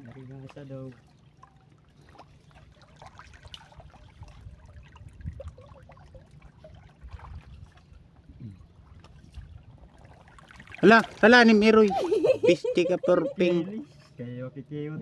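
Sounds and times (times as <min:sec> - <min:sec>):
water sloshing and trickling: 0:00.0 - 0:15.0.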